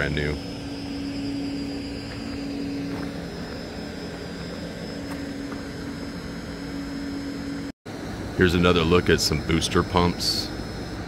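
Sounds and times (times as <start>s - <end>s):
mechanical drone: 0.0s - 11.0s.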